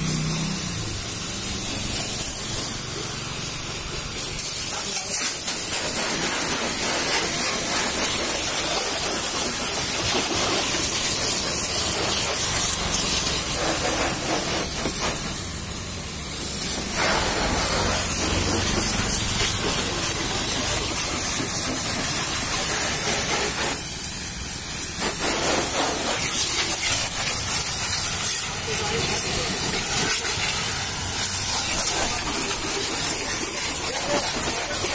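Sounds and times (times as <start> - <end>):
pressure washer spraying water: 0.0 - 34.9.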